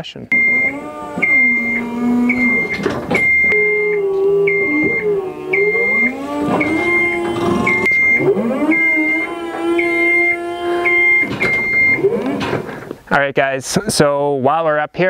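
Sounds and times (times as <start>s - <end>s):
lift motion alarm beeping: 0.3s - 12.7s.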